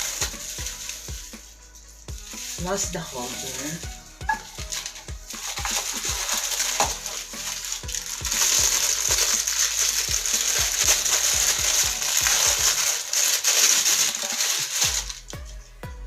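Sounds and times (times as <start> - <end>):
plastic packaging crinkling: 0.0 - 15.5.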